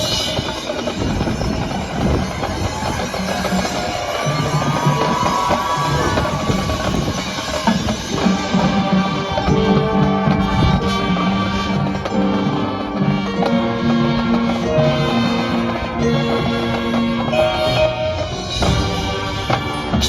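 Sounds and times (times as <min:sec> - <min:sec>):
drums and percussion: 0:00.0 - 0:20.0
marching band playing: 0:00.0 - 0:20.0.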